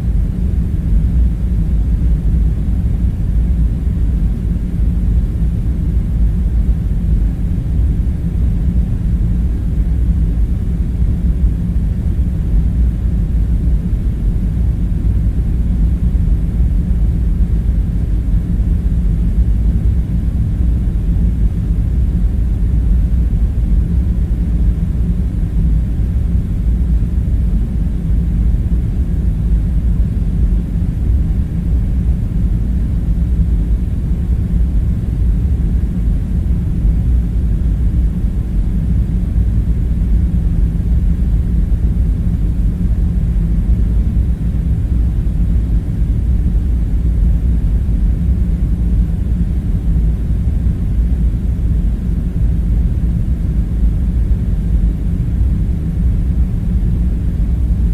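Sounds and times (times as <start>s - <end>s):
faint hum: 0.0s - 57.9s.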